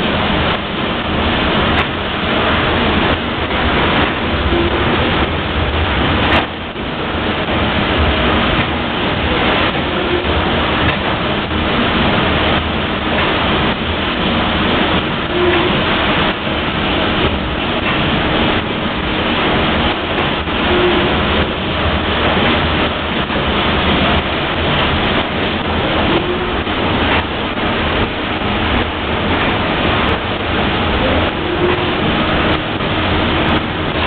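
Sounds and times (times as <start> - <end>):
steam engine machinery noise: 0.0 - 34.0.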